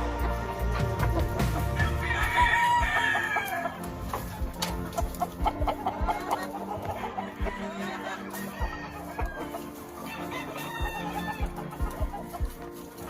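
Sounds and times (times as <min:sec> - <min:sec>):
rooster crowing: 0:00.0 - 0:12.4
chickens clucking: 0:00.0 - 0:13.0.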